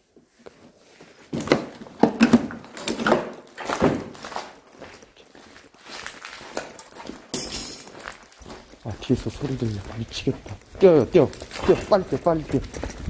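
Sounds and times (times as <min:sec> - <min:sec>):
footsteps on debris: 0:00.4 - 0:13.0.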